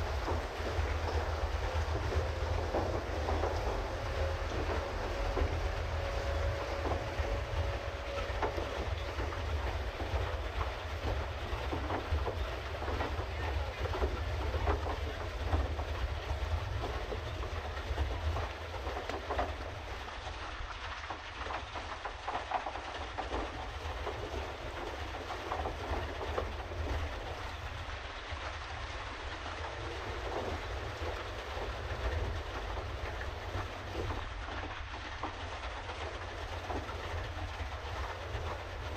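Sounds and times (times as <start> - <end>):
steady low rumble: 0.0 - 21.0, 23.5 - 38.9
pedal boat paddle wheel churning water: 0.0 - 38.9.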